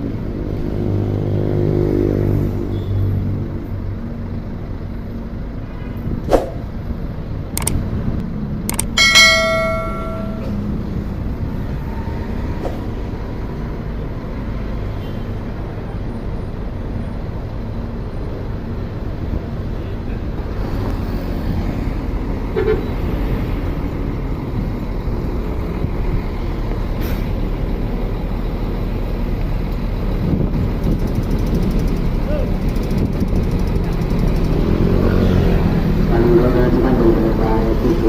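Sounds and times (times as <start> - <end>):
bus engine rumbling: 0.0 - 38.0.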